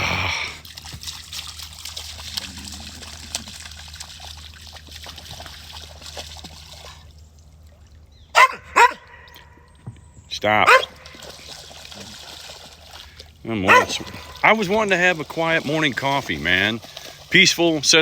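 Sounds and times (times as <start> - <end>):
dog splashing in muddy water: 0.0 - 9.6, 10.4 - 18.0.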